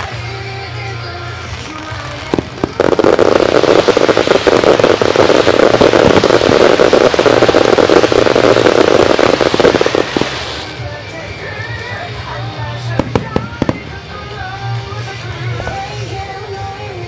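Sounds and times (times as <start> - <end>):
fireworks crackling: 0.0 - 16.8.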